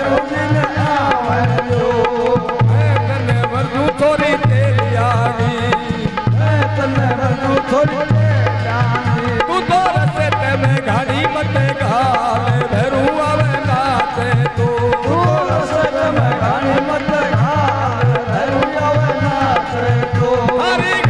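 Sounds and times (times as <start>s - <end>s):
droning harmonium: 0.0s - 21.0s
man singing devotional song: 0.0s - 21.0s.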